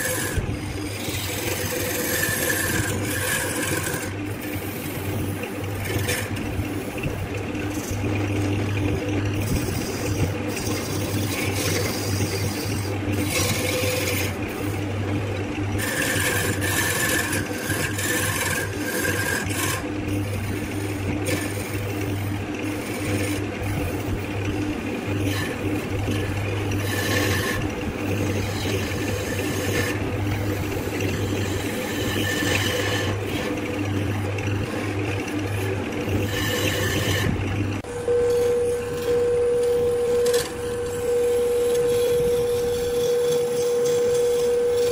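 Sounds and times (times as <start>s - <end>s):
lathe motor hum: 0.0s - 44.9s
tool rasping on spinning wood: 0.0s - 44.9s.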